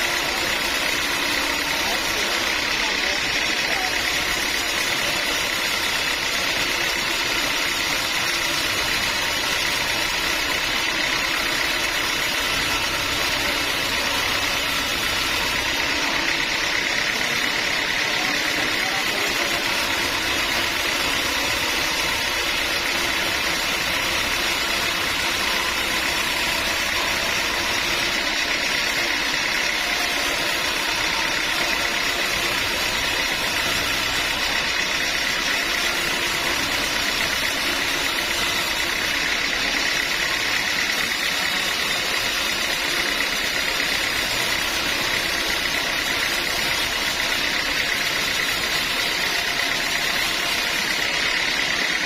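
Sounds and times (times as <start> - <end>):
sawmill machinery humming and whining: 0.0 - 52.0.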